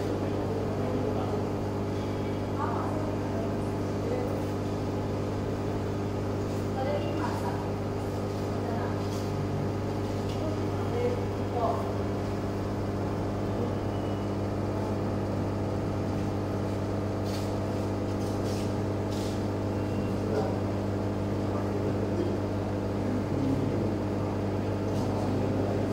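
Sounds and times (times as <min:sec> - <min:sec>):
aquarium air pump humming: 0:00.0 - 0:25.9.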